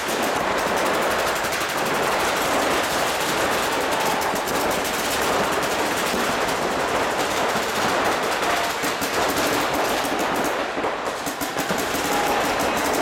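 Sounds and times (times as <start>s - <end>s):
paintball guns firing rapidly: 0.0s - 13.0s.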